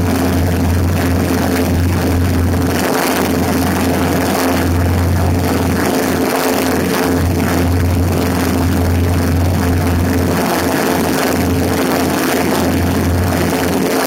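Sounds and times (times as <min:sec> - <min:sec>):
propeller plane engine droning: 0:00.0 - 0:14.0
wind rush over microphone: 0:00.0 - 0:14.0.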